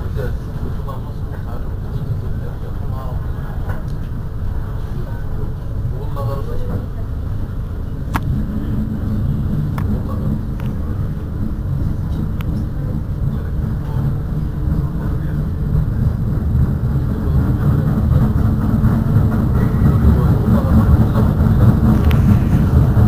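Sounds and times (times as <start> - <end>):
tram humming and rumbling: 0.0 - 23.0.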